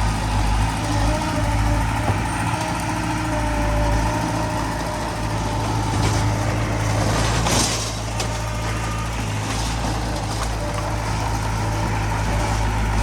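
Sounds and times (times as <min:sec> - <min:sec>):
diesel engines of heavy machinery: 0:00.0 - 0:13.0.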